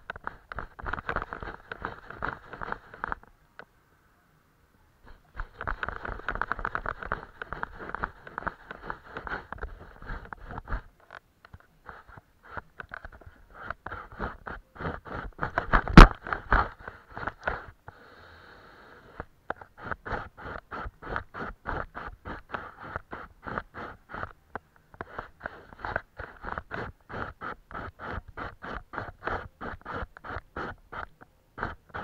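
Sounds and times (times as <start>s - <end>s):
paintbrush rubbing on paper: 0.0s - 3.3s, 5.0s - 10.9s, 11.6s - 17.8s, 19.1s - 32.0s.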